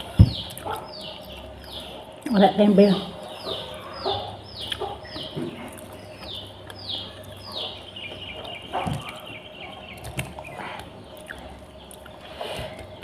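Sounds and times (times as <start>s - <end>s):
bird calling: 0.0s - 13.0s.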